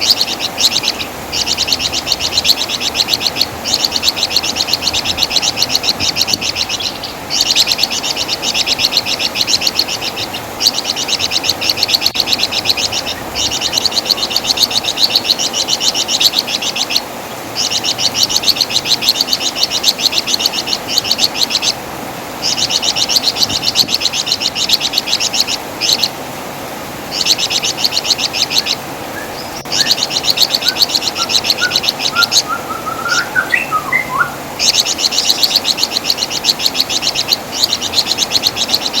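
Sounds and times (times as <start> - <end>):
songbird chattering trills: 0.0 - 21.8, 22.4 - 26.2, 27.1 - 39.0.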